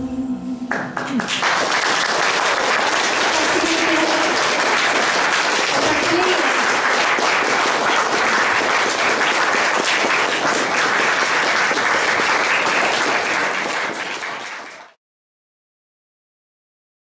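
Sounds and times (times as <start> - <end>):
audience applauding: 0.7 - 15.0.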